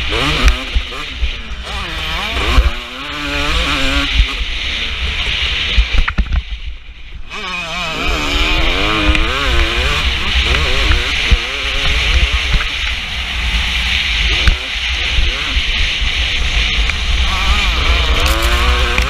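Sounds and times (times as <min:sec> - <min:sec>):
motocross engine revving: 0:00.0 - 0:06.2, 0:07.2 - 0:19.0.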